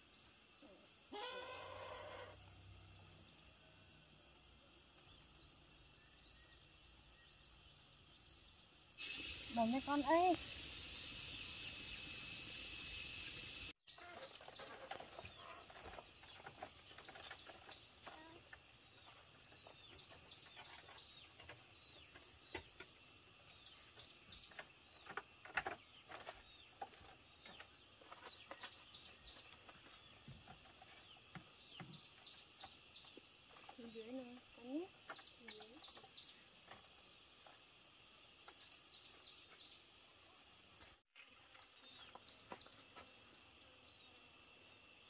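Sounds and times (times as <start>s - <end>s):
songbird singing: 0.0s - 44.4s.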